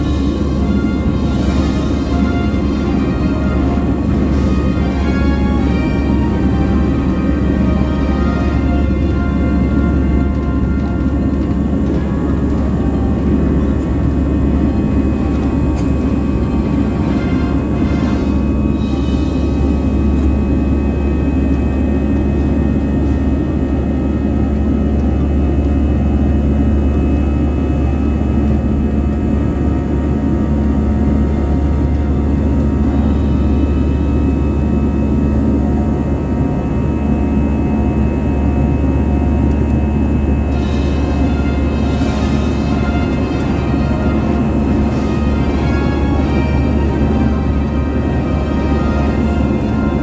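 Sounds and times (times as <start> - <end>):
engine and air roar: 0.0 - 50.0
steady tonal whine: 0.0 - 50.0.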